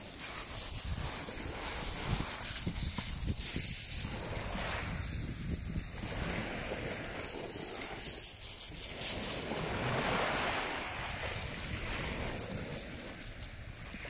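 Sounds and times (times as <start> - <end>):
small waves washing ashore: 0.0 - 14.0
wind buffeting microphone: 0.0 - 14.0.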